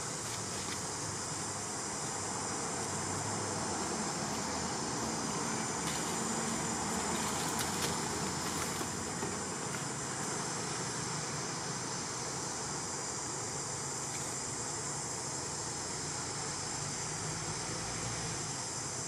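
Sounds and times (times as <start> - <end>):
forest insects droning: 0.0 - 19.0.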